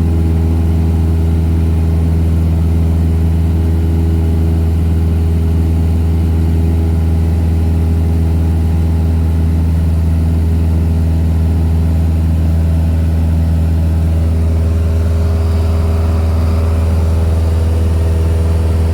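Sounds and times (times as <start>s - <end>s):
propeller plane engine droning: 0.0s - 18.9s.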